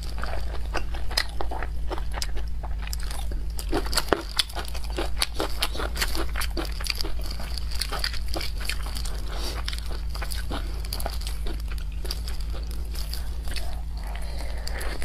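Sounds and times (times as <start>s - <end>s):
steady low hum: 0.0s - 15.0s
wet chewing: 0.0s - 15.0s.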